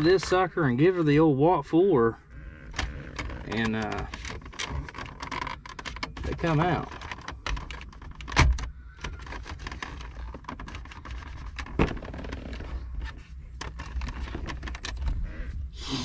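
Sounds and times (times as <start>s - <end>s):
plastic panel clicks and creaks: 2.3s - 15.4s.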